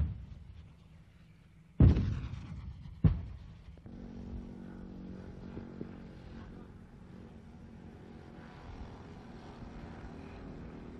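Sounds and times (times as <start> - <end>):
low engine drone: 0.0 - 10.9.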